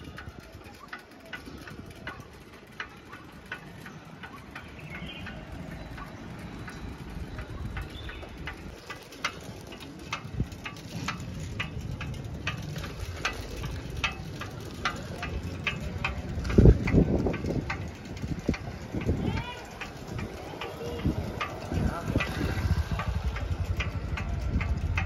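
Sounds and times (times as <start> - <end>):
road rumble: 0.0 - 25.0
turn signal ticking: 0.0 - 25.0.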